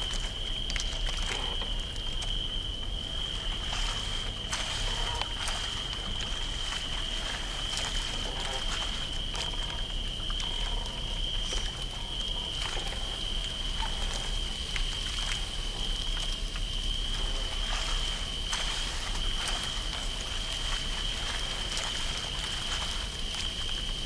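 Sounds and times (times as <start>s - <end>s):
soft clicks drips and creaks: 0.0s - 3.9s, 4.5s - 24.0s
cricket chorus: 0.0s - 24.0s
low rumble of water: 0.0s - 24.0s.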